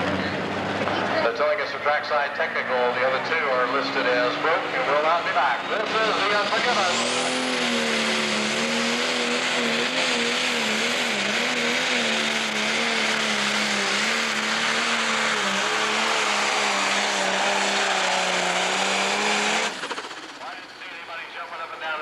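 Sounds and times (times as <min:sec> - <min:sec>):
pulling tractor diesel engine drone: 0:00.0 - 0:22.0.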